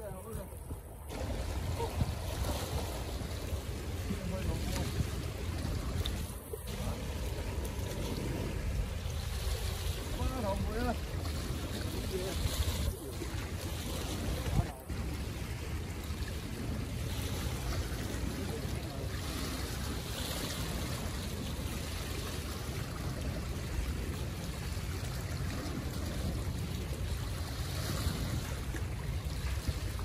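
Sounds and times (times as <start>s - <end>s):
low steady rumble: 0.0s - 30.0s
sea waves washing against rocks: 0.0s - 30.0s.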